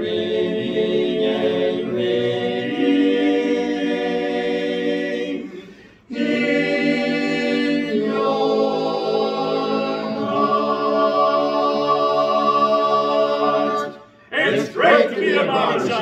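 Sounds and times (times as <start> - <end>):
men's chorus singing a cappella: 0.0 - 16.0.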